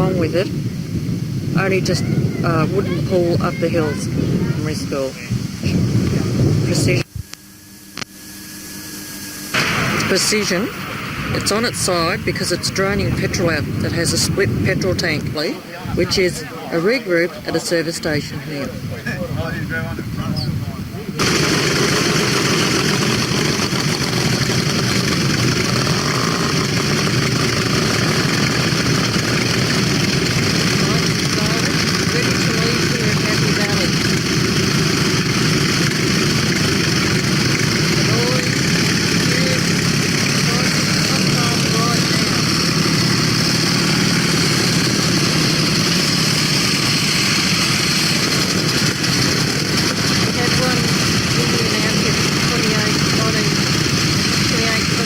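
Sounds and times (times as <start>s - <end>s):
motorcycle engine running: 0.0s - 15.5s, 20.9s - 55.0s.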